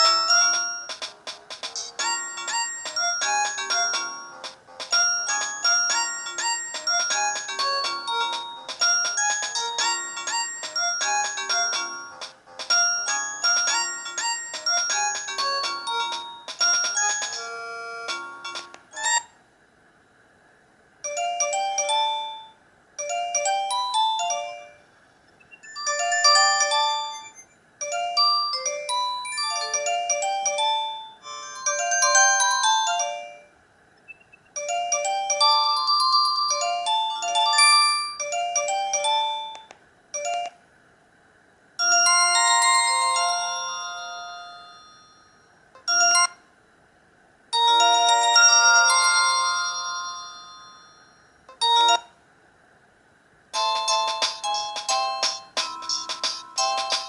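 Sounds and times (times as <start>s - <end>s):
phone ringtone melodies: 0.0s - 19.3s, 21.0s - 24.8s, 25.6s - 33.6s, 34.5s - 40.6s, 41.8s - 46.4s, 47.6s - 52.1s, 53.6s - 57.0s.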